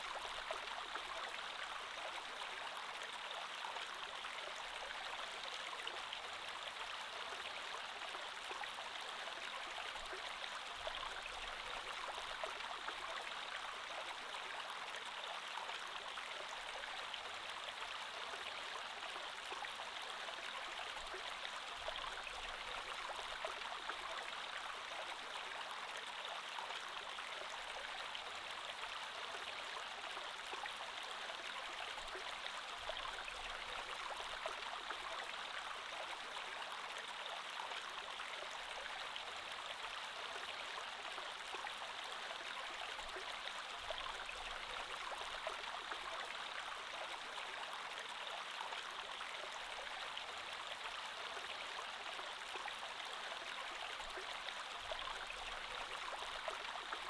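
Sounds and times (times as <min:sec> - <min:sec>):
creek water flowing over rocks: 0:00.0 - 0:57.0.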